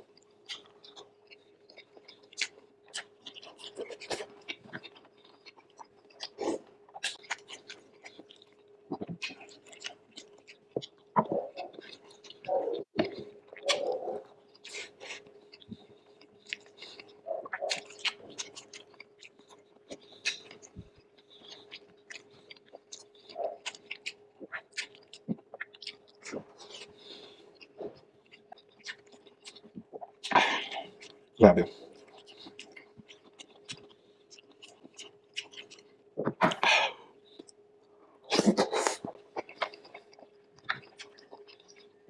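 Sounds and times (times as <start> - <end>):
faint steady hum: 0.0 - 42.0
person chewing: 0.0 - 42.0.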